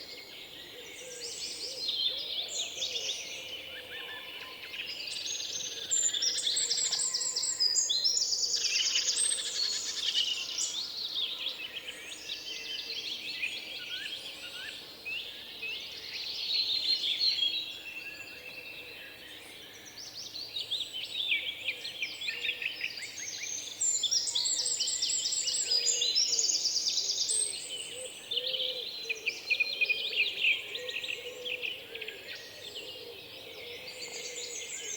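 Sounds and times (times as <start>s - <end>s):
small birds chirping and trilling: 0.0s - 34.9s.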